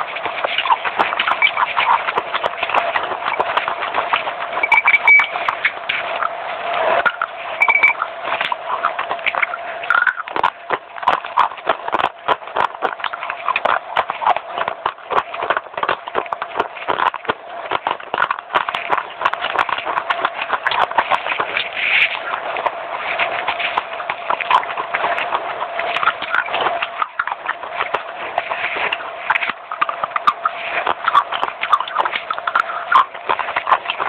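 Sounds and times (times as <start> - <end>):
crunchy chewing: 0.0 - 34.0.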